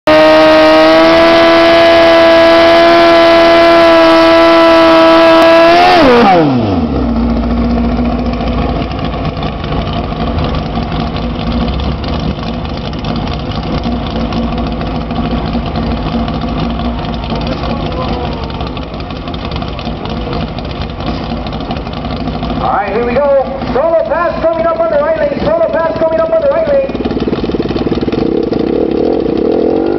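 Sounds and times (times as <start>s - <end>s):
motorcycle engine revving then idling: 0.1s - 29.9s.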